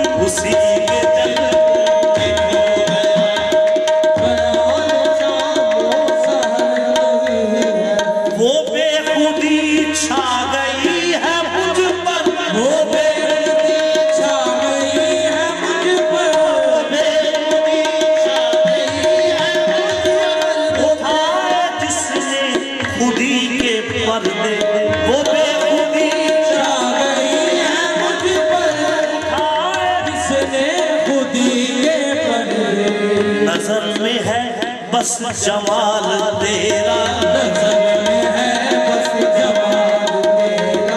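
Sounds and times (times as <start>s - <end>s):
hand drum rhythm: 0.0s - 40.9s
harmonium: 0.0s - 40.9s.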